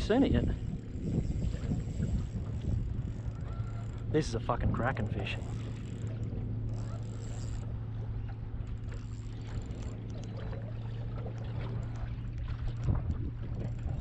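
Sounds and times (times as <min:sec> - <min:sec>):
steady low hum: 0:00.0 - 0:14.0
water lapping at hull: 0:00.0 - 0:14.0
wind on microphone: 0:00.0 - 0:14.0.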